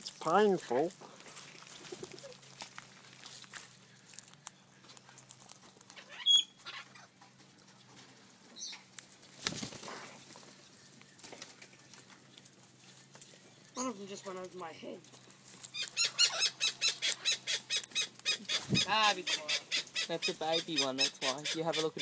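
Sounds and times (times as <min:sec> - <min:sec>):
parrots scuffling and fluttering: 0:00.9 - 0:19.8.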